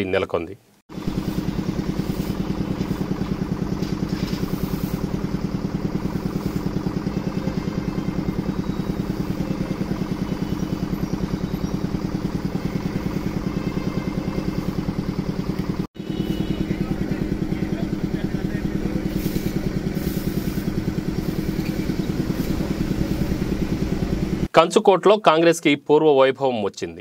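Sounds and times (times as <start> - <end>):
vehicle engine idling: 0.9 - 24.5.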